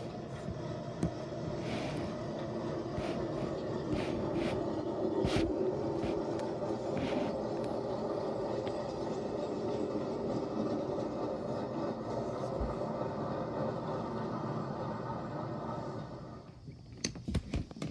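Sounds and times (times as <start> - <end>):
train rumbling along track: 0.0 - 16.5.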